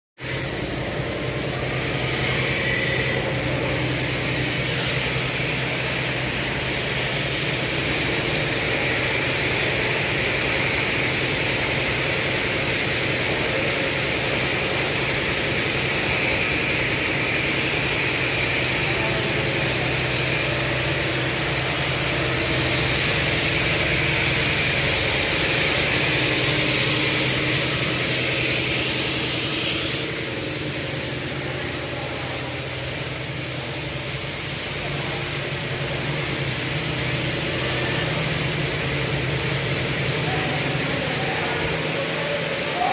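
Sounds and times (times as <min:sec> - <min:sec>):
furnace roaring: 0:00.2 - 0:42.9.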